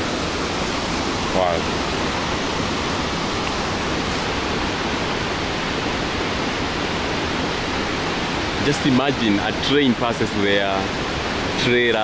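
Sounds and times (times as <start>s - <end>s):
churning whitewater rushing: 0.0s - 12.0s.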